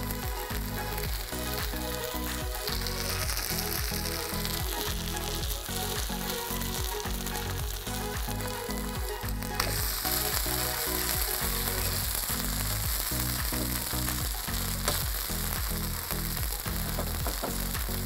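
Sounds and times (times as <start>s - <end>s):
background music with bass line: 0.0s - 18.0s
batter sizzling in oil: 0.0s - 18.0s.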